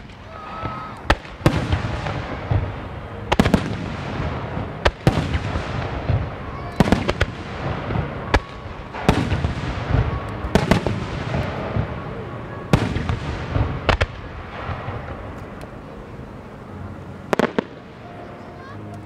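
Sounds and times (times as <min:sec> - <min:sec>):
fireworks bursting overhead: 0:00.0 - 0:19.0.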